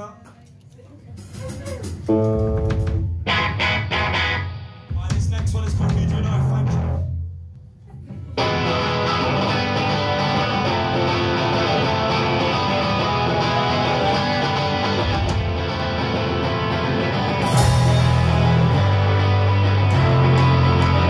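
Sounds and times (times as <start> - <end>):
live rock band playing: 1.3 - 7.2, 8.4 - 21.0.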